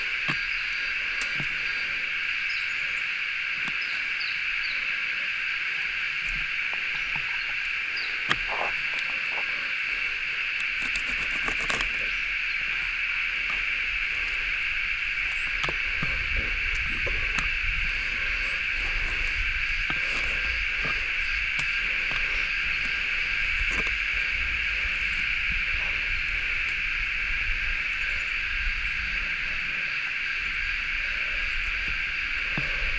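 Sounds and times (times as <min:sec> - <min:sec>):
insects chorus: 0:00.0 - 0:32.9.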